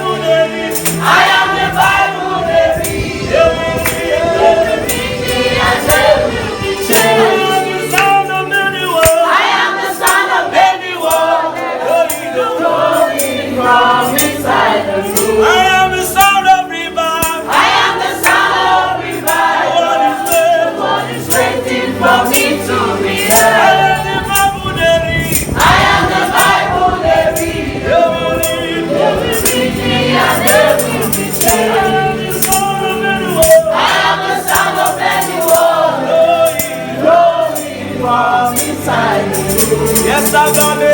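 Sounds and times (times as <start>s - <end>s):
choir singing gospel song: 0.0s - 40.9s
tambourine jingle: 0.0s - 40.9s.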